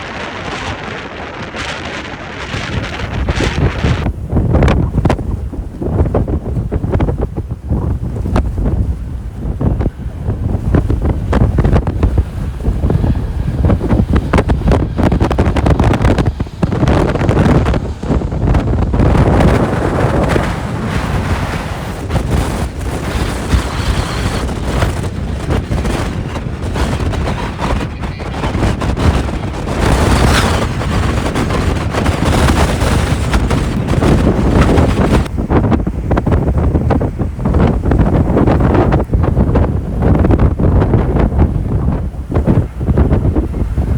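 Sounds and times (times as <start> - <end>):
gusting wind on microphone: 0.0 - 43.9.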